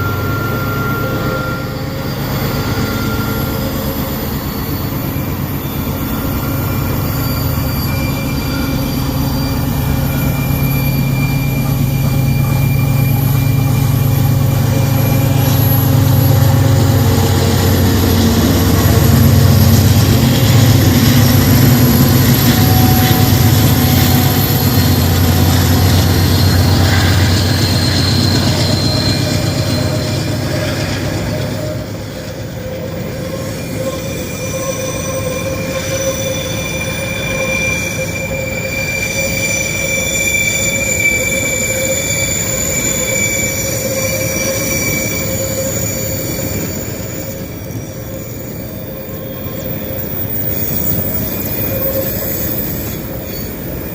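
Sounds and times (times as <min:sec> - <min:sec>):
diesel locomotive engine drone: 0:00.0 - 0:53.9
train wheels squealing: 0:00.0 - 0:53.9.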